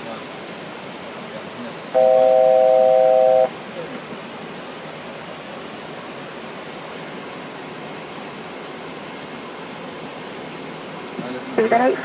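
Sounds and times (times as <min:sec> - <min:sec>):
steady cockpit hiss: 0:00.0 - 0:12.0.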